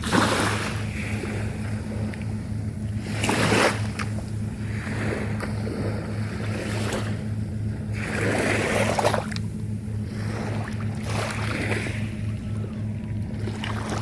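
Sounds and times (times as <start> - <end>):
small waves washing in: 0.0 - 14.0
steady low hum: 0.0 - 14.0.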